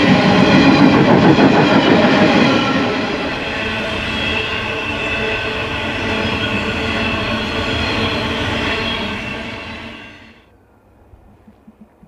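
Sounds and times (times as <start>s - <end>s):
high wheel squeal: 0.0s - 10.4s.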